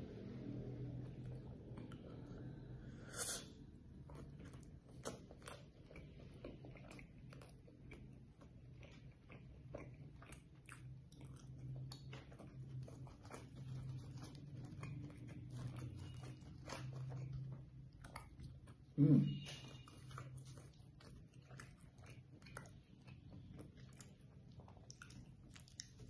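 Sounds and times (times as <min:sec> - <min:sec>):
chewing and wet mouth clicks: 0:01.0 - 0:02.6, 0:03.9 - 0:26.0.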